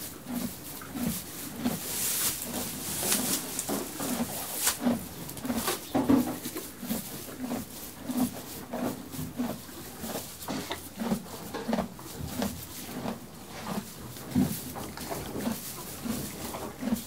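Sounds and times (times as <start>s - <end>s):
horse chewing hay: 0.0s - 17.0s.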